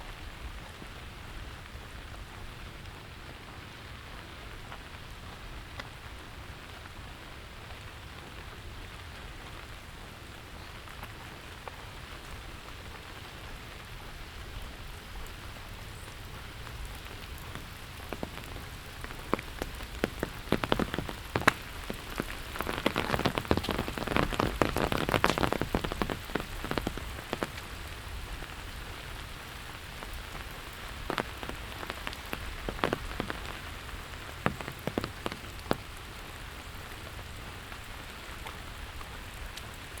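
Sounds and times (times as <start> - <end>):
steady rainfall hissing: 0.0 - 40.0.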